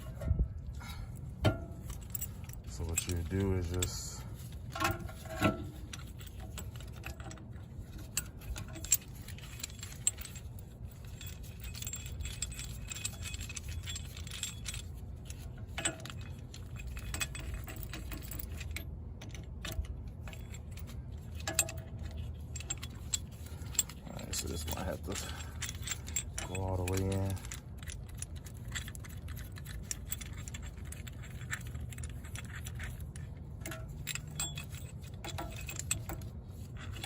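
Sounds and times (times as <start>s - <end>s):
metal tools clinking: 0.0s - 37.0s.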